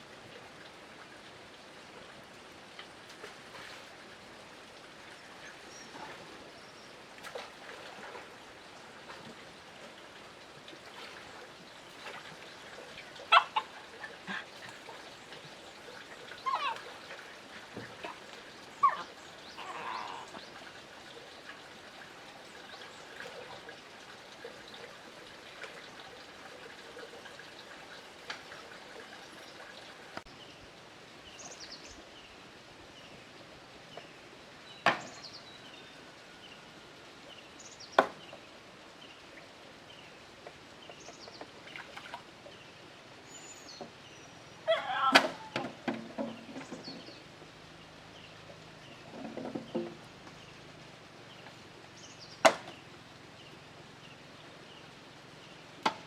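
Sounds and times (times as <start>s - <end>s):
outdoor ambience: 0.0s - 56.0s.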